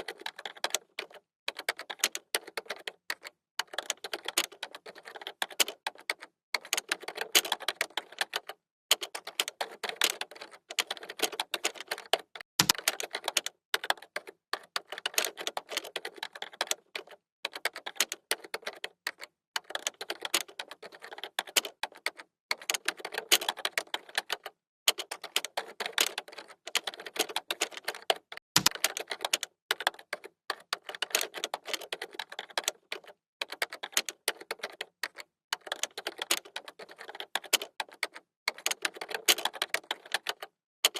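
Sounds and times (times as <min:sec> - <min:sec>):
typing on computer keyboard: 0:00.0 - 0:40.9.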